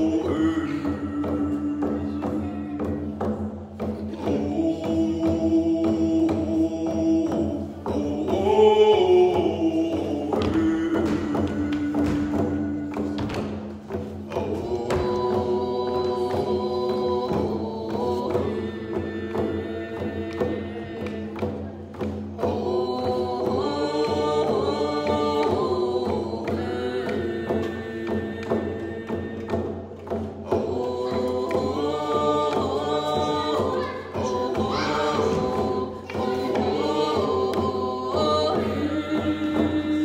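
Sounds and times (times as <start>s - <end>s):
frame drums beating: 0.0s - 40.0s
group of voices singing: 0.0s - 40.0s.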